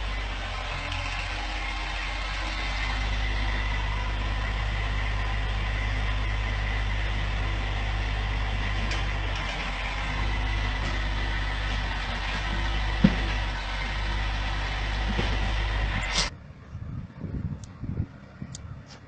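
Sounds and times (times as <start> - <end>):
heavy machine engine humming: 0.0 - 19.0.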